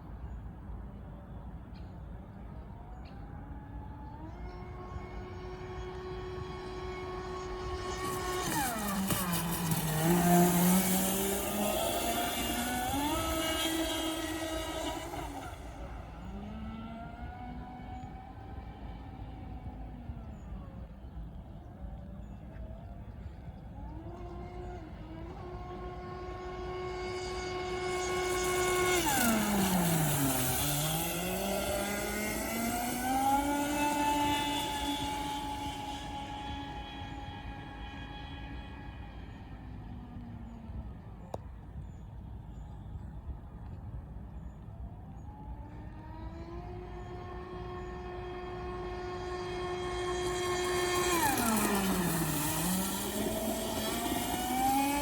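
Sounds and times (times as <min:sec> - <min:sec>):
electric motor whining: 0:03.4 - 0:20.9, 0:22.6 - 0:41.0, 0:45.4 - 0:55.0.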